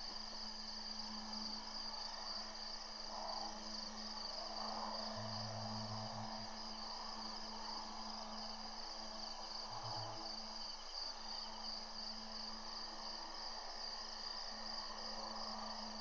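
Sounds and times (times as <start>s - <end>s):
crickets chirring: 0.2s - 16.0s.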